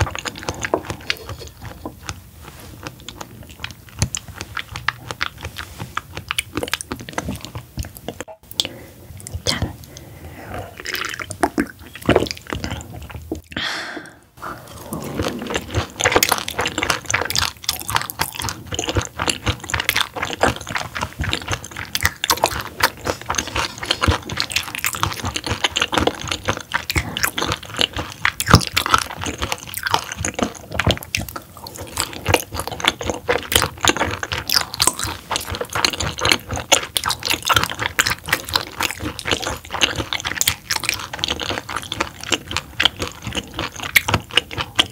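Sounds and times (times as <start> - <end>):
wet chewing and mouth clicks: 0.0 - 44.9.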